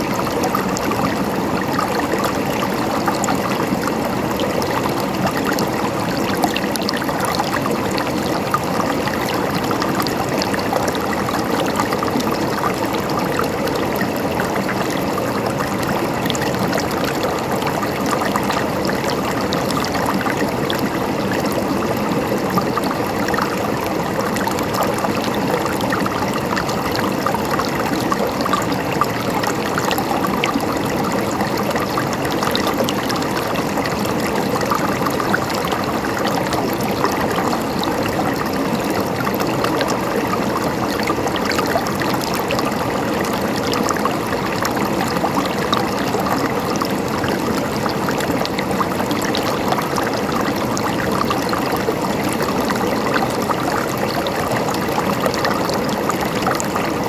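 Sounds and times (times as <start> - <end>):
mountain stream gurgling: 0.0 - 57.0.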